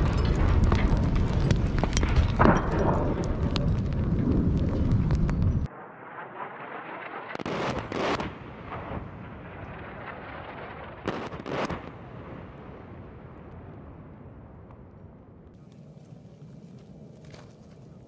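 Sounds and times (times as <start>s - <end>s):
distant explosions with rumble: 0.0s - 15.6s.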